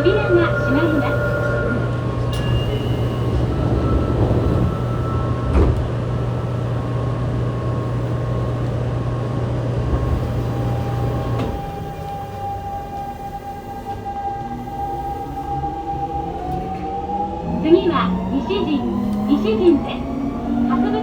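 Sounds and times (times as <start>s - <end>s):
train car hum: 0.0s - 21.0s.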